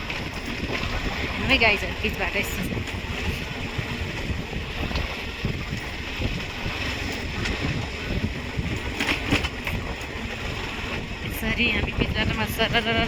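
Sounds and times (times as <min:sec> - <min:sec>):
vehicle rumble on paved road: 0:00.0 - 0:13.0
wind buffeting microphone: 0:00.0 - 0:13.0.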